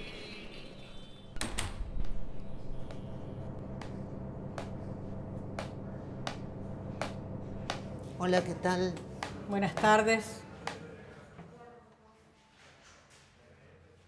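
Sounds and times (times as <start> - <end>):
elevator machine hum: 0.0 - 11.4.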